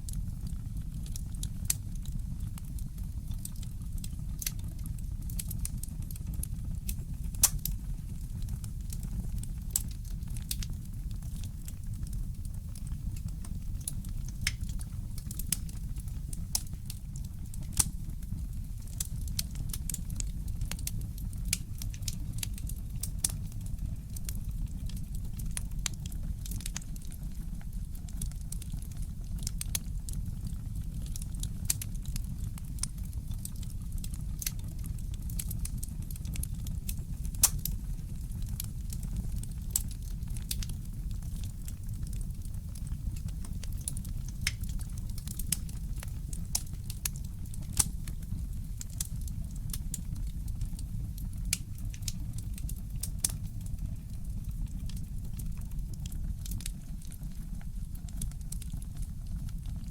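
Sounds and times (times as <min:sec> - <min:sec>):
fire crackling and popping: 0:00.0 - 0:59.9
fire low rumble: 0:00.0 - 0:59.9.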